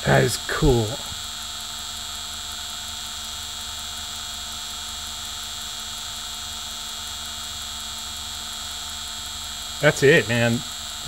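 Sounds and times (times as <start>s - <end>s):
motor hum and high whine: 0.0s - 11.0s.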